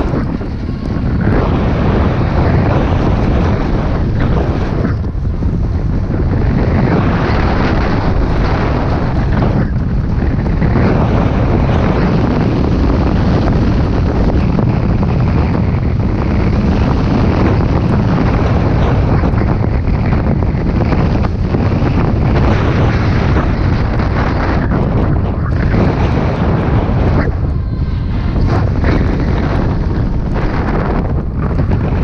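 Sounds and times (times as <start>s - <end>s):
snowboard scraping over snow: 0.0s - 32.0s
wind rushing over microphone: 0.0s - 32.0s.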